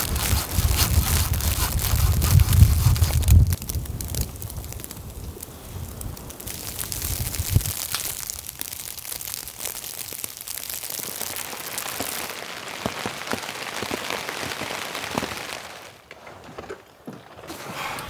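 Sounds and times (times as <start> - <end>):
heavy rain on a tent: 0.0 - 16.0.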